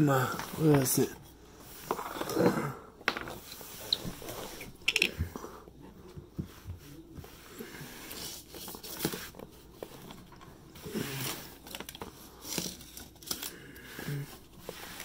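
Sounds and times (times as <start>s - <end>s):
rustling and scraping: 0.2s - 15.0s.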